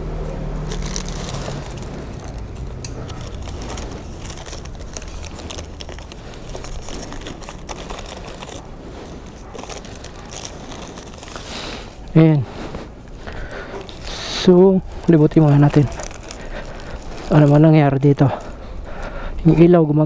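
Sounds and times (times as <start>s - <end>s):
paper envelope crinkling: 0.4s - 19.2s
envelope tearing open: 0.5s - 12.1s, 13.8s - 18.7s.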